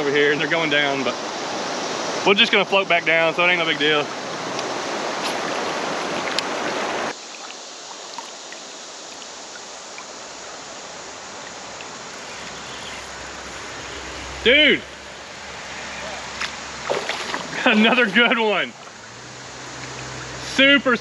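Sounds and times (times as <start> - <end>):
steady hiss: 0.0 - 5.2, 7.1 - 21.0
fast river current rushing: 0.0 - 21.0.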